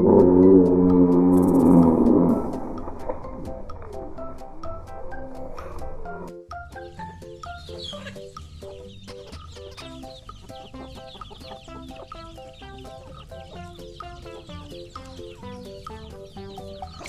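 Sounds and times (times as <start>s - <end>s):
children's tune with pulsing bass: 0.0s - 17.0s
chickens clucking and peeping: 2.4s - 17.0s.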